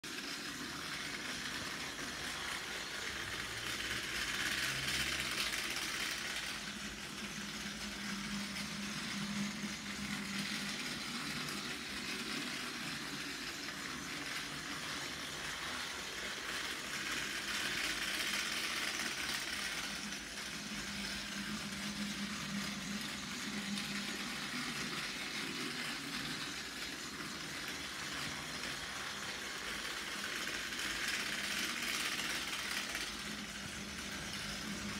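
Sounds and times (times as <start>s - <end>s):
toy train motor whirring: 0.0s - 34.9s.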